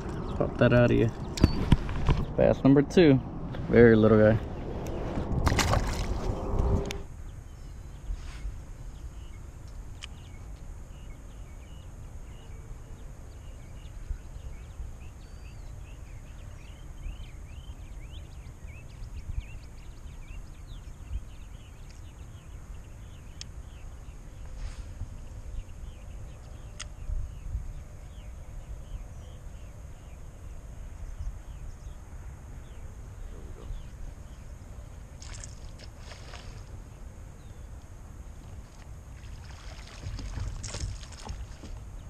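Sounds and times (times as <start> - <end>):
small birds chirping: 0.0 - 4.7, 5.9 - 42.0
low rumble of wind: 0.0 - 42.0.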